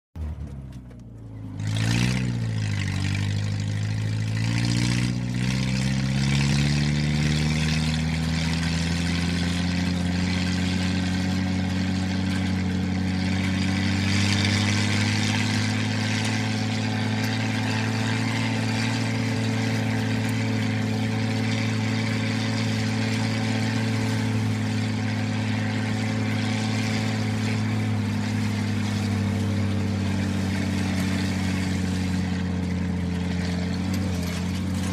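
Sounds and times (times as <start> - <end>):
vehicle motor humming: 0.2 - 34.9.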